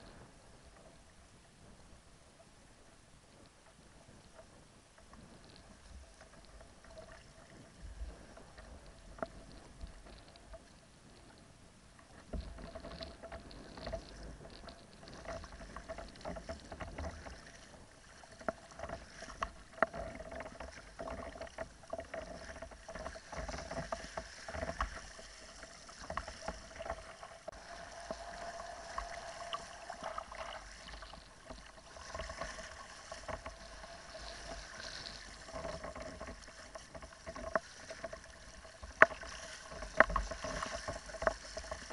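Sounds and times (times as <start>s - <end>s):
water splashing against hull: 3.5s - 41.9s.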